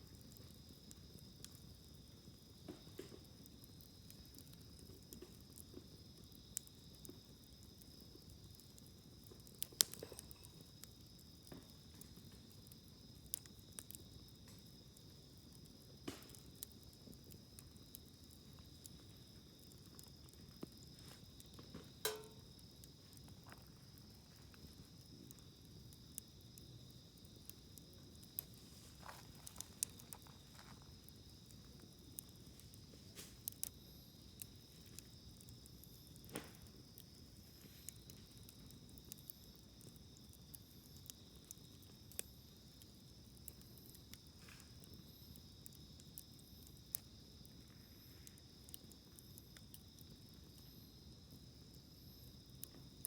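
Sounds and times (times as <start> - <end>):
campfire crackling and popping: 0.0 - 53.0
crickets trilling: 0.0 - 53.0.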